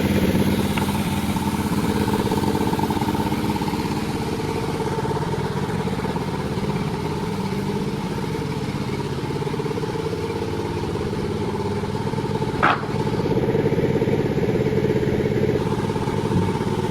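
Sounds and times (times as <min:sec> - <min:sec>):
chainsaw engine running: 0:00.0 - 0:16.9.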